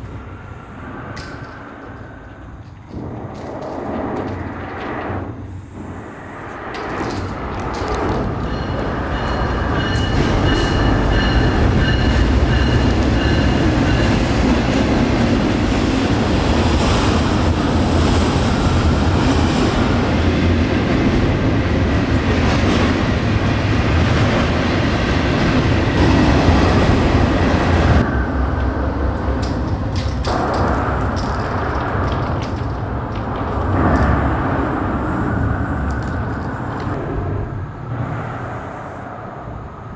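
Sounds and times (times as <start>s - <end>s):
rail clicks and clanks: 0.0s - 38.2s
freight train wheels rumbling: 0.0s - 39.9s.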